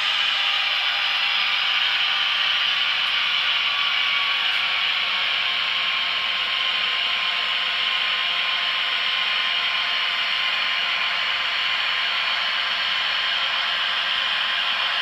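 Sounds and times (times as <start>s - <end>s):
model train motors whirring: 0.0s - 15.0s.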